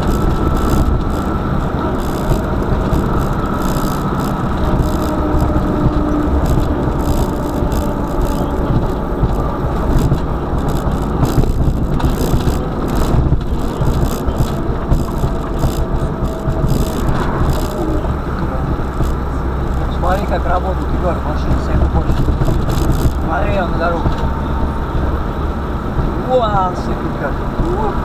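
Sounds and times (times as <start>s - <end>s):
car road and engine rumble: 0.0s - 28.0s
rattles and clicks: 0.0s - 28.0s.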